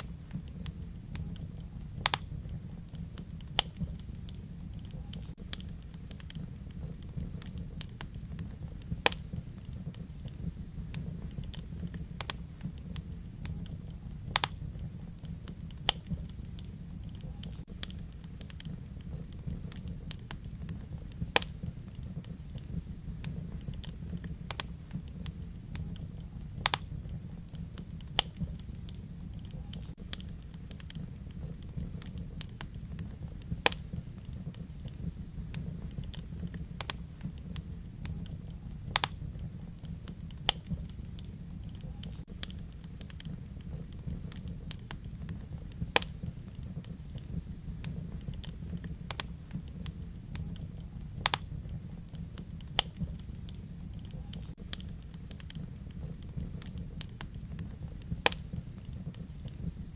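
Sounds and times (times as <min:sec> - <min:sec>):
low rumble of burning fire: 0:00.0 - 0:59.9
sharp pops from fire: 0:00.0 - 0:59.9
wood fire crackling: 0:00.0 - 0:59.9.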